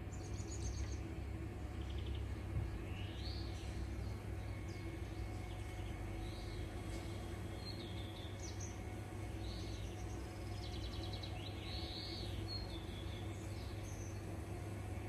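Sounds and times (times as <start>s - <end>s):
birds calling: 0.0s - 15.0s
low background hum: 0.0s - 15.0s.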